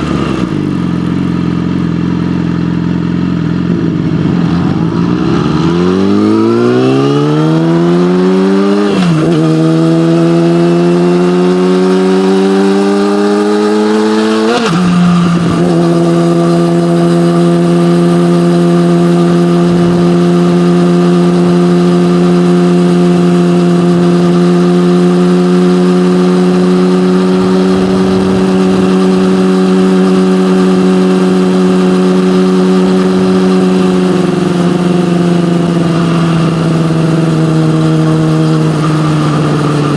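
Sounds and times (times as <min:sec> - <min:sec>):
motorcycle accelerating: 0:00.0 - 0:39.9.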